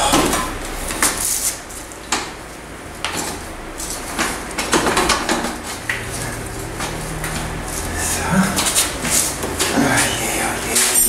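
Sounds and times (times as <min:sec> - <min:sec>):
electric fan hum: 0:00.0 - 0:11.0.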